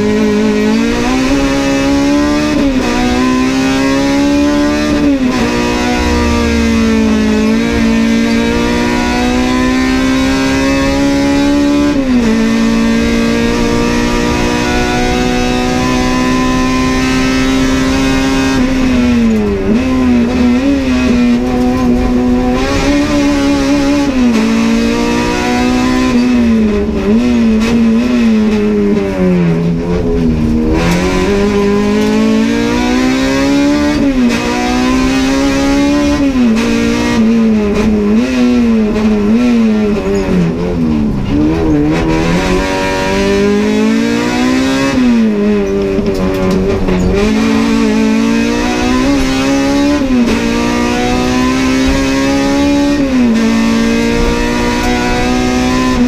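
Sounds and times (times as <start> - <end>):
race car engine: 0.0 - 56.0.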